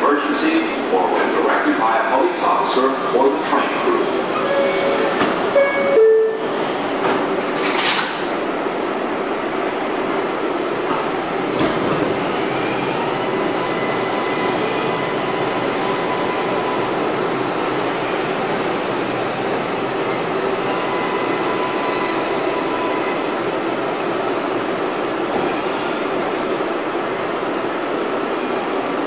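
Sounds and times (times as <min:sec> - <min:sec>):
train wheels rumbling and rattling: 0:02.6 - 0:29.0.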